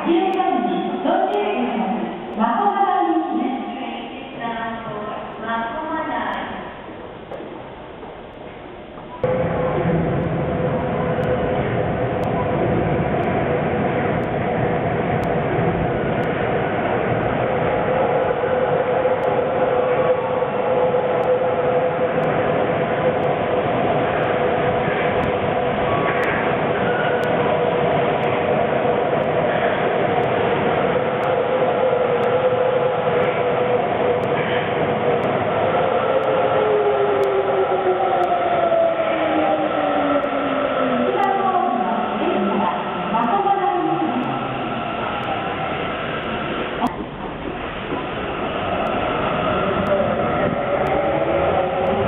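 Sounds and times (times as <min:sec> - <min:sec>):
subway train rushing noise: 0:00.0 - 0:52.0
train hum: 0:00.0 - 0:52.0.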